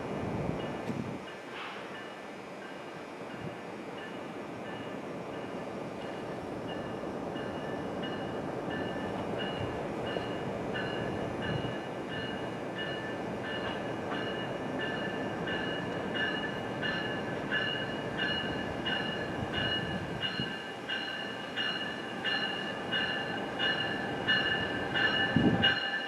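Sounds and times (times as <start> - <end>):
train rumbling: 0.0 - 26.0
train bell ringing: 0.6 - 26.0.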